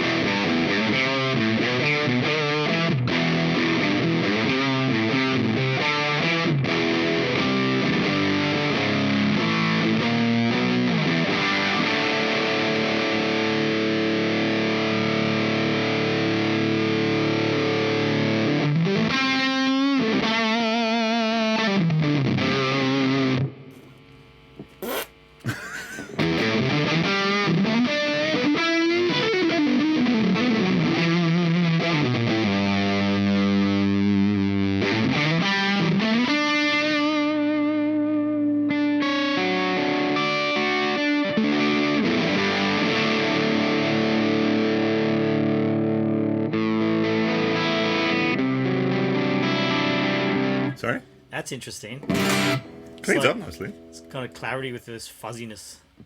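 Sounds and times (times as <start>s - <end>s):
distorted electric guitar: 0.0s - 54.6s.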